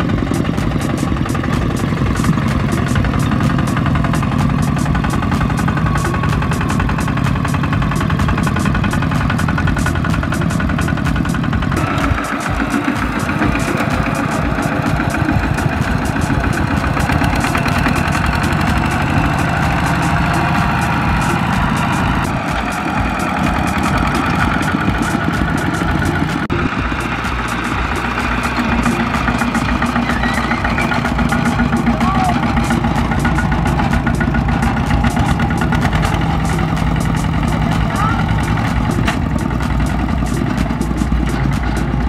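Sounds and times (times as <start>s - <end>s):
diesel tractor engine knocking: 0.0s - 42.0s.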